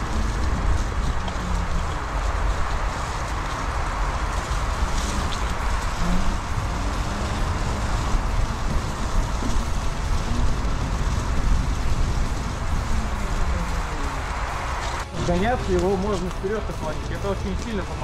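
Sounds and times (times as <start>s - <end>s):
tyre rumbling over dirt: 0.0s - 18.0s
wind on microphone: 0.0s - 18.0s.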